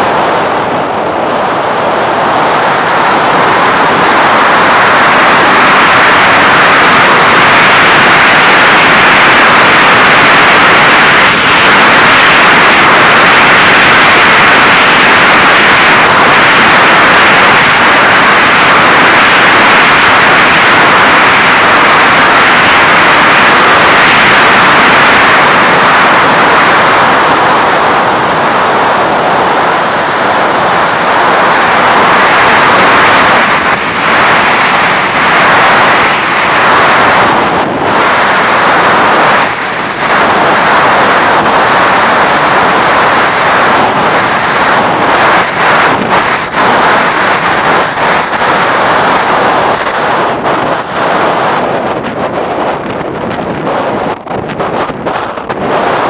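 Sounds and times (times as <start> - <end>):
airflow and electric motor noise: 0.0 - 56.0.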